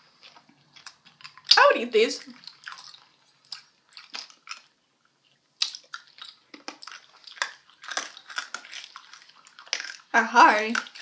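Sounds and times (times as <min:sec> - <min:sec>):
crunching hard candies: 0:00.0 - 0:04.8, 0:05.6 - 0:11.0.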